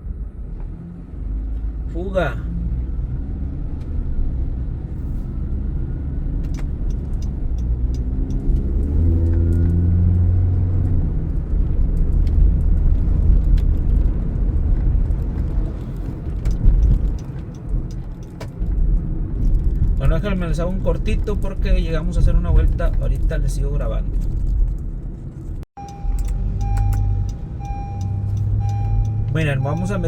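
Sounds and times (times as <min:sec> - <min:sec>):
car engine accelerating: 0:00.0 - 0:20.0, 0:25.8 - 0:30.0
road rumble: 0:00.0 - 0:30.0.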